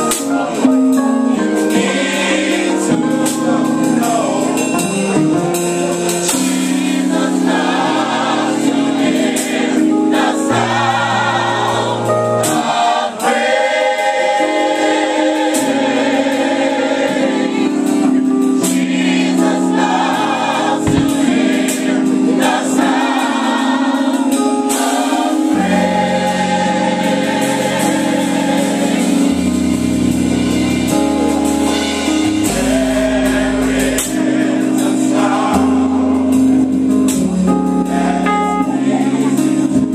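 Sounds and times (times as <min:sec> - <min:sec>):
band accompaniment: 0:00.0 - 0:39.9
gospel choir singing: 0:00.0 - 0:39.9.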